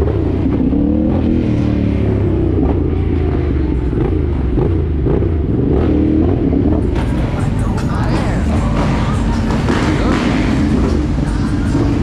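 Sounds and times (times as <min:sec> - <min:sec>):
dirt bike engine rumbling: 0:00.0 - 0:12.0.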